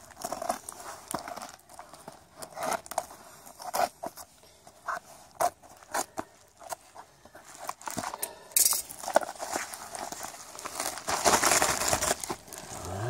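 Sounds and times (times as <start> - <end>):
plastic mailer ripping and crinkling: 0.0 - 8.2, 8.8 - 13.0.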